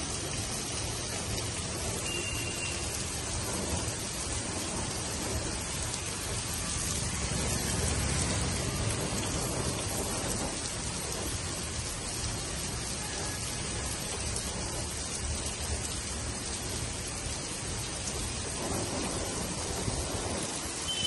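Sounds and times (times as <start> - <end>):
heavy rain on a road: 0.0 - 21.0.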